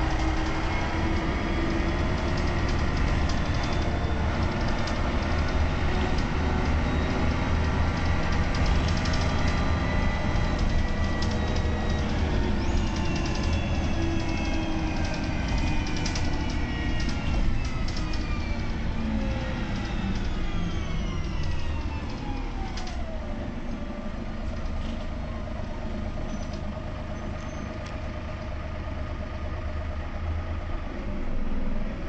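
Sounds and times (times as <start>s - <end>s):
bus diesel engine drone: 0.0s - 32.0s.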